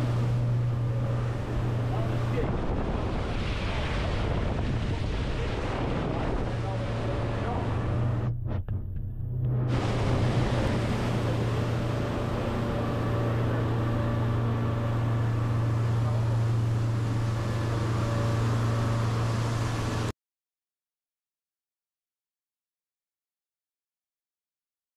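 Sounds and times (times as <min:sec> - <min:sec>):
outboard motors droning: 0:00.0 - 0:20.1
rush of boat wake: 0:00.0 - 0:20.1.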